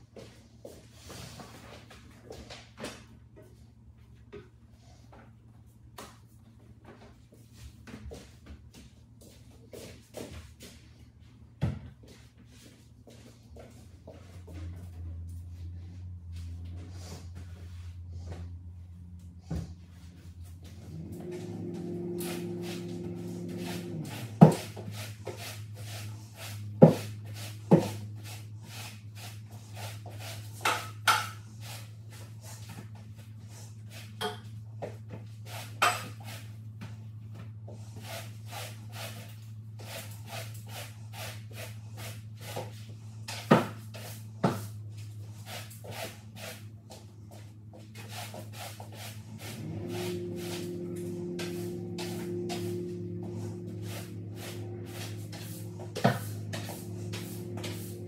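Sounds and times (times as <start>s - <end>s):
floor-cleaning tool scuffing wood floor: 0.0s - 58.0s
steady low hum: 0.0s - 58.0s.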